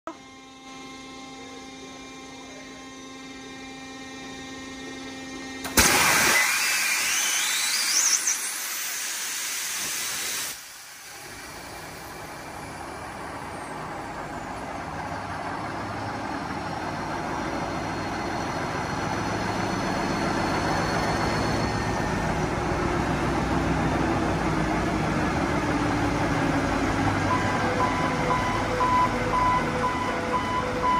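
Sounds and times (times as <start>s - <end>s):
machinery hum: 0.1s - 6.3s, 10.6s - 30.9s
diesel generator starting and running: 0.1s - 30.9s.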